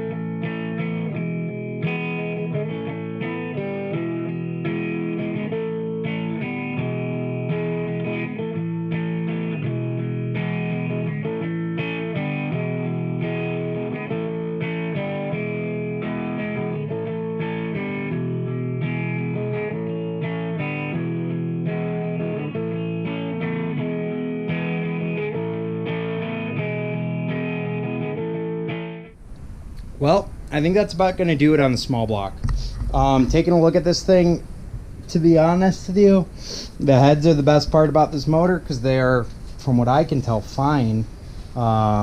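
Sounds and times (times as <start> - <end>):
distorted electric guitar music: 0.0 - 42.0.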